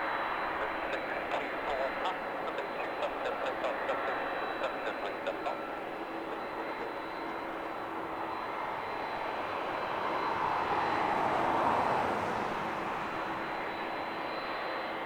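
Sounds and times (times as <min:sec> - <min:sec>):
jet aircraft passing: 0:00.0 - 0:15.0.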